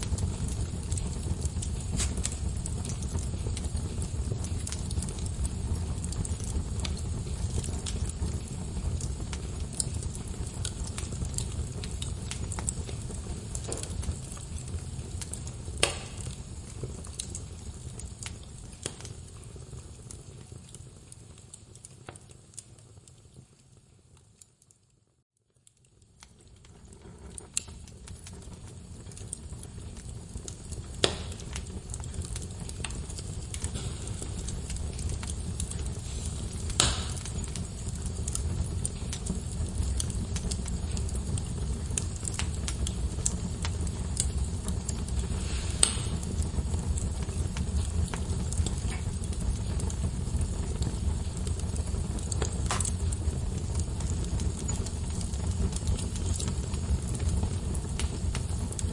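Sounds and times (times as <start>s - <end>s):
sharp pops from burning logs: 0.0s - 23.3s, 25.6s - 58.9s
wood fire crackling: 0.0s - 58.9s.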